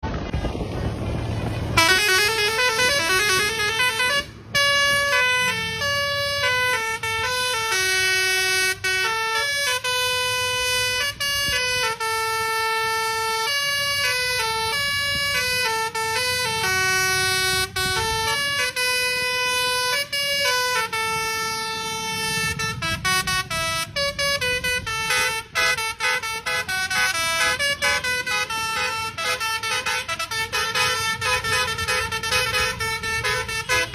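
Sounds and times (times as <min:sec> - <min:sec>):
musical bus air horn: 0:01.8 - 0:33.9.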